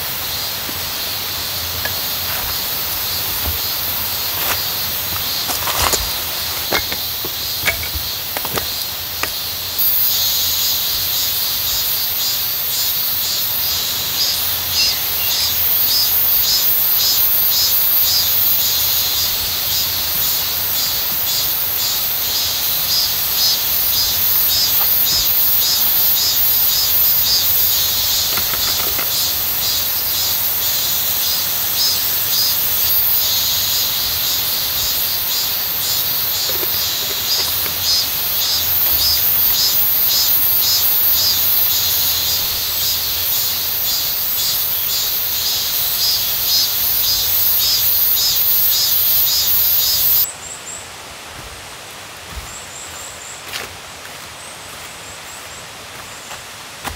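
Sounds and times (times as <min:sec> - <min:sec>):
insect chorus pulsing buzz: 0:00.0 - 0:50.8.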